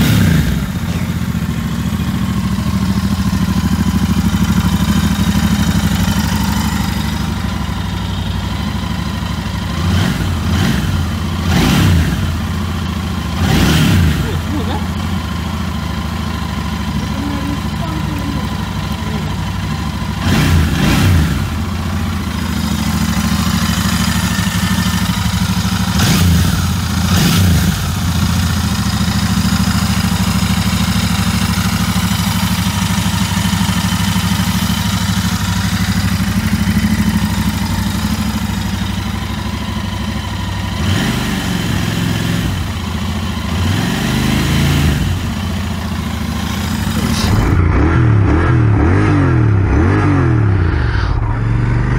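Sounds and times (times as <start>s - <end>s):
motorcycle engine idling: 0.0s - 49.7s.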